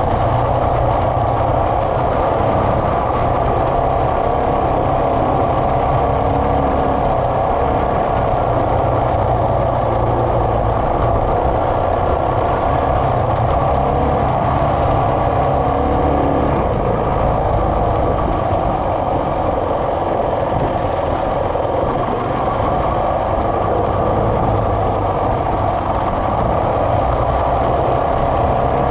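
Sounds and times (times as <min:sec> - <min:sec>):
motorcycle engine cruising: 0:00.0 - 0:28.9
wind rumbling on microphone: 0:00.0 - 0:28.9.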